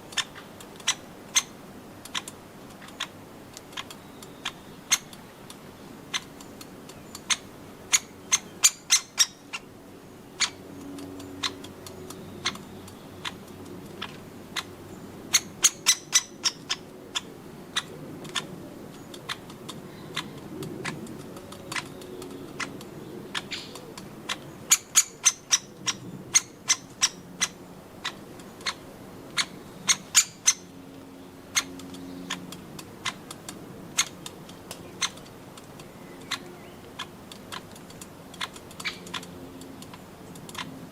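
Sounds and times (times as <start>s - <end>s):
woodpecker pecking: 0.1s - 40.9s.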